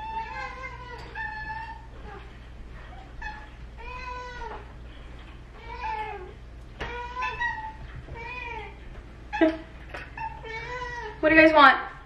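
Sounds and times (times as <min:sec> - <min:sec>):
cats meowing: 0:00.0 - 0:11.2.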